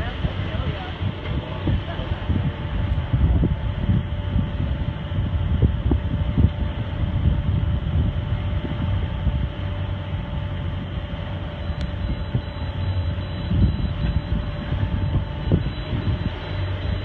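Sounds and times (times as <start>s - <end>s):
faint steady hum: 0.0s - 17.0s
wind buffeting microphone: 0.0s - 17.0s.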